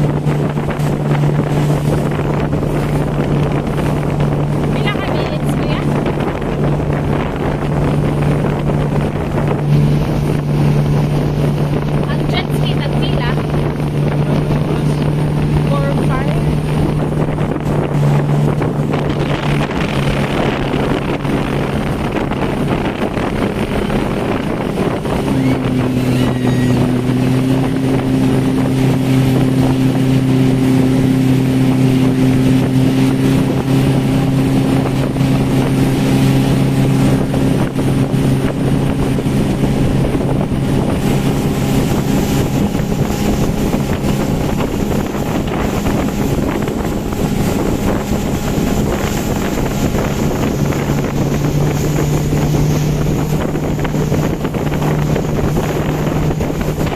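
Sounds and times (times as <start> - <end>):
motorboat engine running: 0.0 - 56.9
water rushing: 0.0 - 56.9
wind buffeting microphone: 0.0 - 56.9.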